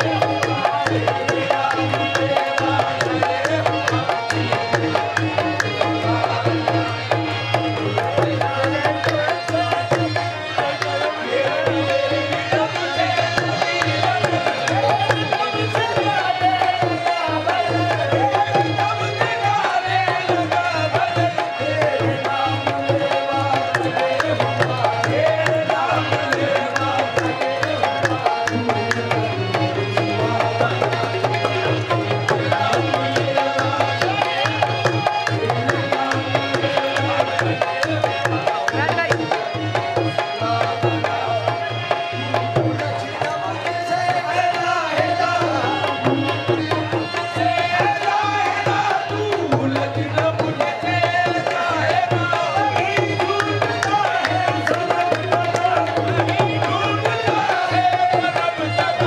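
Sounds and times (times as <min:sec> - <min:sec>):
tabla drumming: 0:00.0 - 0:59.0.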